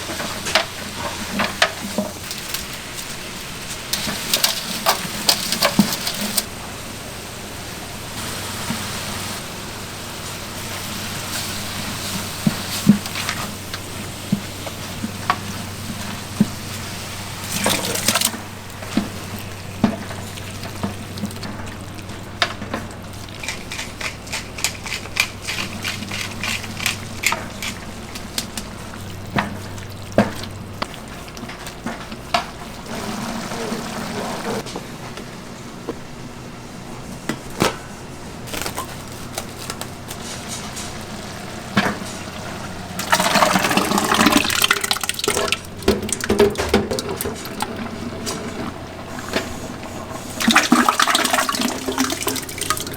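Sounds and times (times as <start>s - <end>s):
utensils clattering: 0.0s - 6.6s, 10.6s - 34.8s, 37.2s - 52.9s
food sizzling: 0.0s - 34.7s, 38.3s - 46.4s, 47.0s - 52.9s.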